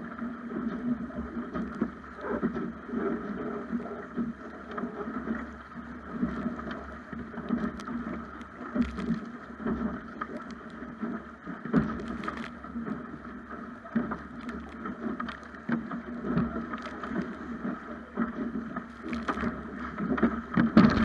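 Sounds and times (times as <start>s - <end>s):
water slapping against hull: 0.0s - 21.0s
wind rumble on microphone: 0.0s - 21.0s.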